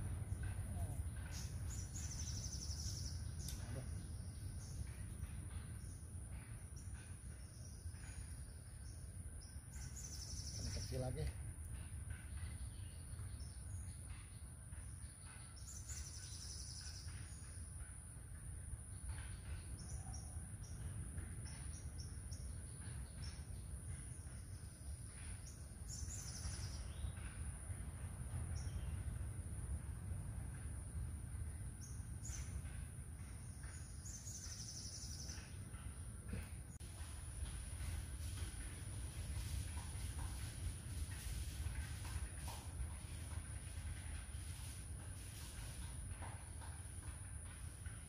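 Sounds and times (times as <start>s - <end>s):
birds chirping: 0.0s - 29.7s, 30.5s - 48.0s.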